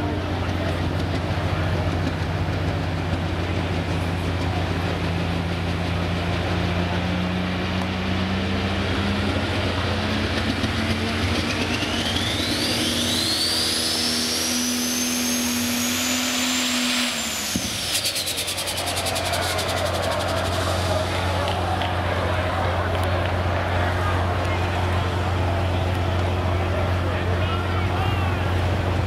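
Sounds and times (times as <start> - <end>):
diesel engine running: 0.0 - 29.0
turbocharger whine: 0.0 - 29.0.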